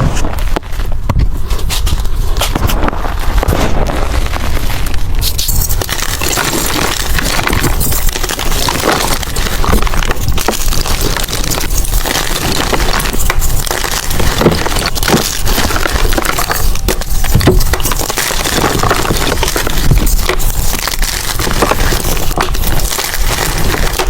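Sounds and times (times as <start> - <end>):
chalk crunching and crumbling: 0.0 - 24.0.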